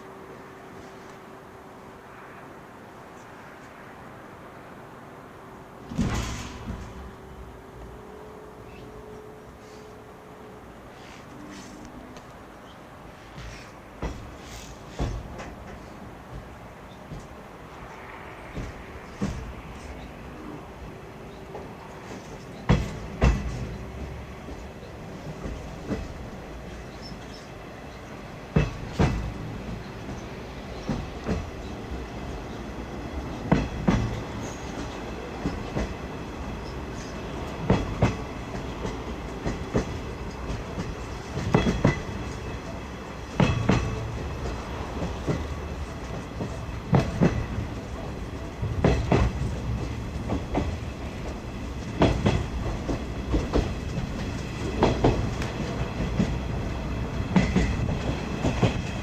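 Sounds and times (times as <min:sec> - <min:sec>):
train wheels rumbling on rails: 0:00.0 - 0:59.0
wheels clacking at rail joints: 0:05.8 - 0:08.0, 0:10.9 - 0:59.0.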